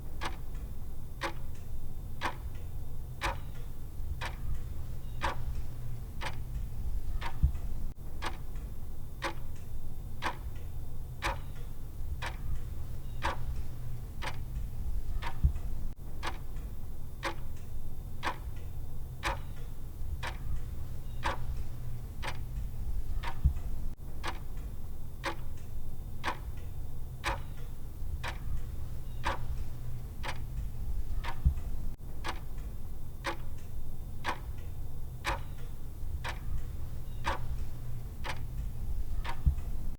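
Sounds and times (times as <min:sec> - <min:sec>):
steady low hum: 0:00.0 - 0:39.9
countdown timer tick-tock: 0:00.2 - 0:39.9.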